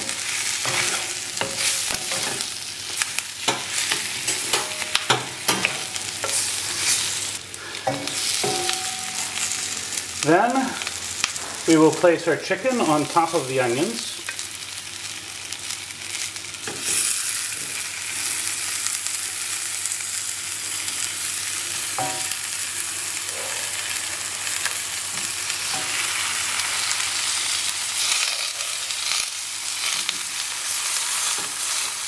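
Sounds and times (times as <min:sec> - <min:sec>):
onions sizzling in a pan: 0:00.0 - 0:32.0.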